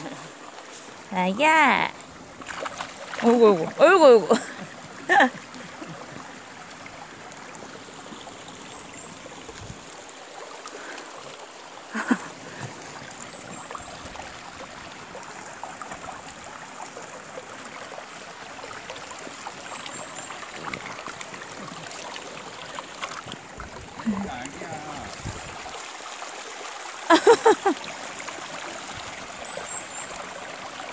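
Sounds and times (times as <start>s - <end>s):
stream flowing over rocks: 0.0s - 30.9s.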